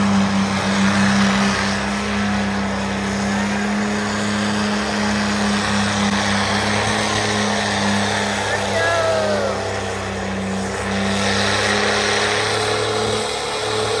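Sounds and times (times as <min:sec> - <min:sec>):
diesel engine at high revs: 0:00.0 - 0:14.0
tires spinning in burnout: 0:00.0 - 0:14.0.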